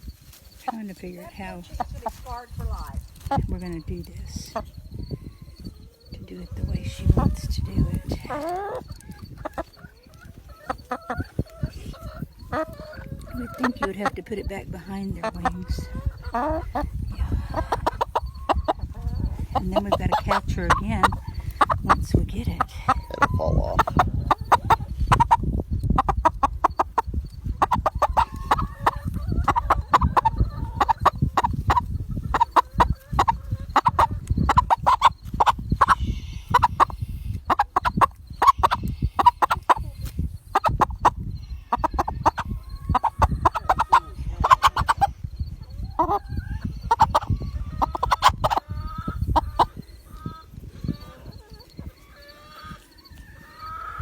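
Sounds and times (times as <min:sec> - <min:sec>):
chickens clucking and squawking: 0:00.0 - 0:54.0.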